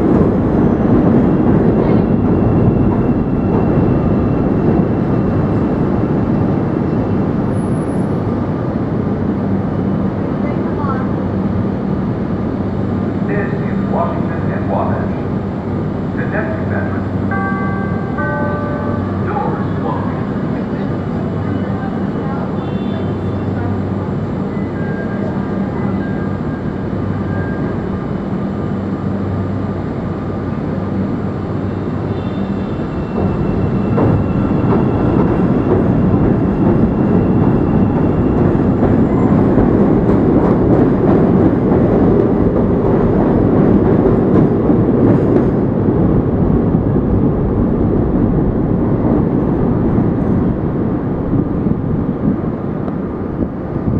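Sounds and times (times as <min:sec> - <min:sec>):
train wheel and rail clatter: 0:00.0 - 0:53.9.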